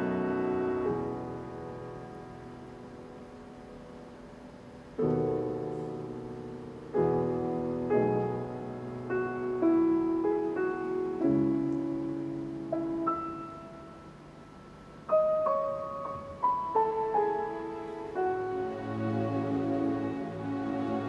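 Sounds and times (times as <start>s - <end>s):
grand piano chords: 0.0s - 21.0s.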